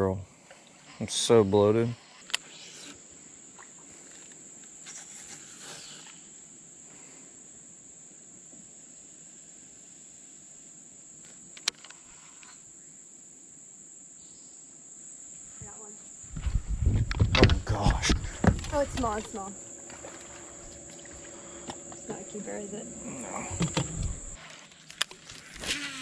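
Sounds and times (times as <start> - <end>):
insect trilling: 0.8 - 6.8, 10.6 - 26.0.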